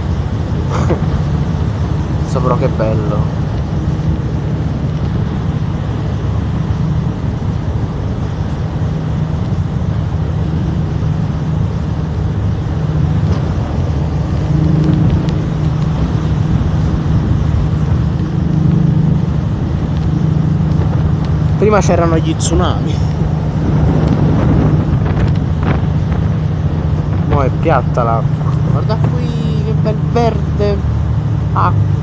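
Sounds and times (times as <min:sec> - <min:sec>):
boat engine drone: 0:00.0 - 0:32.0
wind and water rushing: 0:00.0 - 0:32.0.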